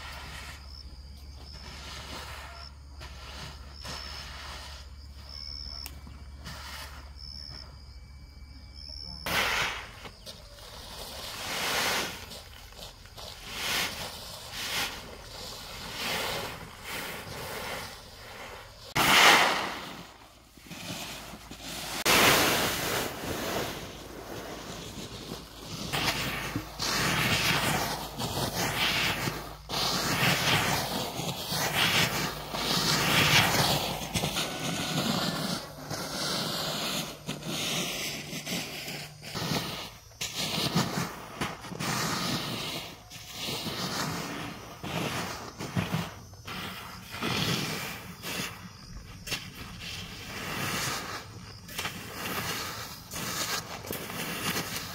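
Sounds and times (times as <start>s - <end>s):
wooden rake scraping through rice: 0.0s - 0.7s, 1.3s - 7.2s, 9.2s - 54.9s
rice pouring onto plastic tarp: 9.2s - 54.9s.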